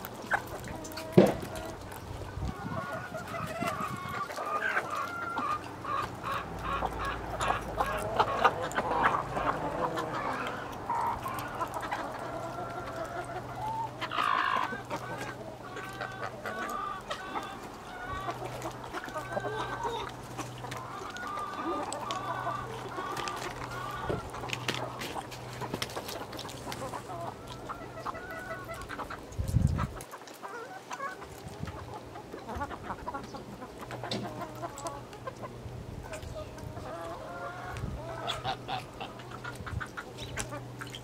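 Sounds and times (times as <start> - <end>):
chickens clucking: 0.0 - 41.0.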